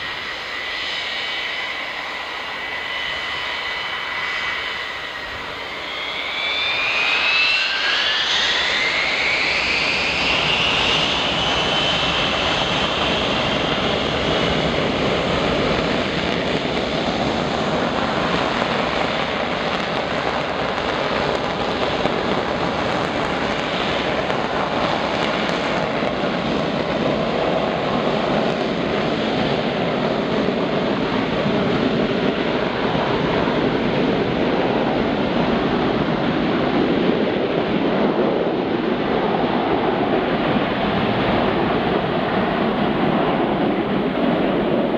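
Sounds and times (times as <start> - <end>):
jet engines spooling up: 0.0 - 44.9
loud jet roar: 0.0 - 44.9.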